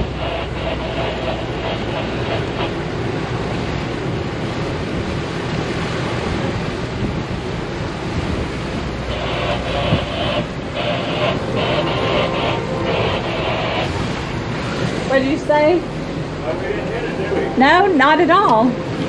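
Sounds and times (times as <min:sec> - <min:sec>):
low engine hum: 0:00.0 - 0:19.0
water rushing along hull: 0:00.0 - 0:19.0
wind on microphone: 0:00.0 - 0:19.0.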